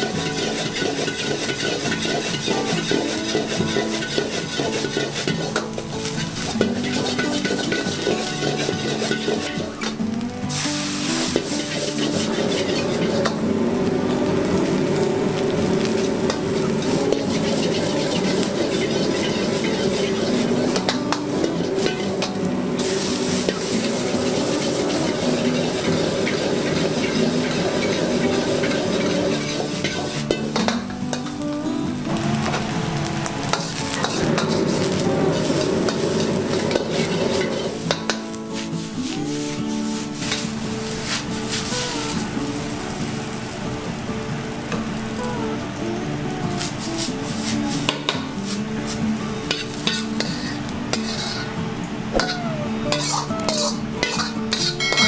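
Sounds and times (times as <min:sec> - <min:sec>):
metal ladle scraping a wok: 0:00.0 - 0:13.4, 0:15.8 - 0:31.2, 0:33.5 - 0:42.2, 0:47.4 - 0:51.6, 0:52.2 - 0:55.0
frying sizzle: 0:00.0 - 0:55.0
loud hiss: 0:05.2 - 0:13.4, 0:14.0 - 0:45.7, 0:46.3 - 0:51.6.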